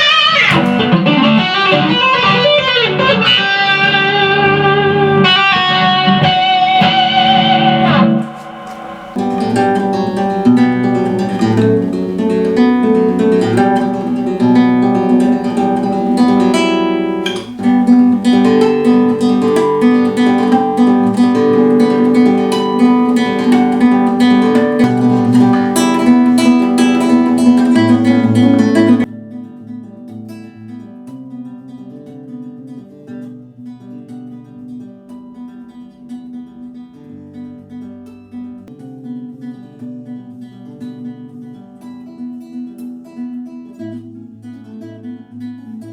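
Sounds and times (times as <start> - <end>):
plucked and strummed guitar: 0.0 - 45.9.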